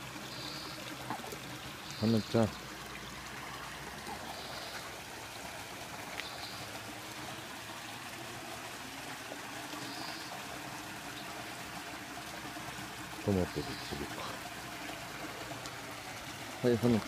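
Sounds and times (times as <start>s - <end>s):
running trickling water: 0.0s - 17.0s.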